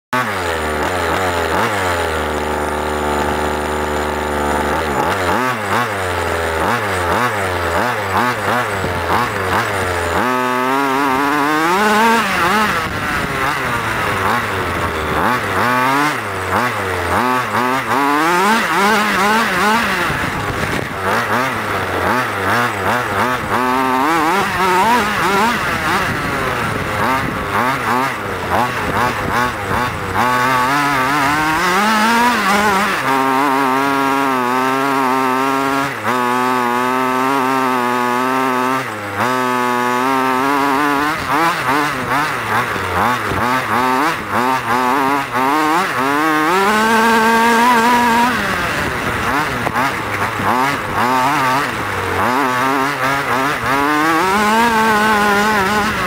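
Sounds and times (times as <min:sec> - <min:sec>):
small two-stroke engine revving: 0:00.1 - 0:56.0.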